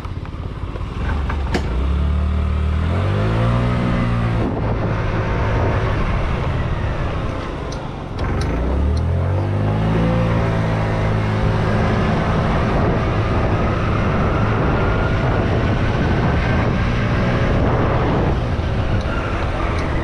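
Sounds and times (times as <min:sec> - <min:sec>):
wind rushing over microphone: 0:02.6 - 0:20.0.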